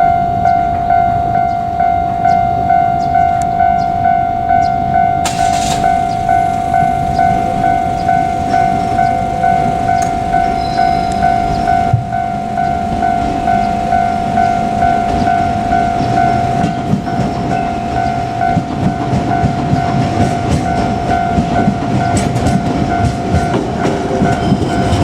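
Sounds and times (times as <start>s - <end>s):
level crossing bell ringing: 0.0s - 25.0s.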